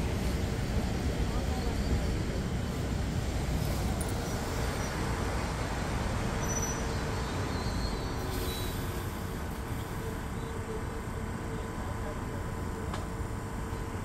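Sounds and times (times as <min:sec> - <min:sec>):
electric train rumble and hum: 0:00.0 - 0:14.0.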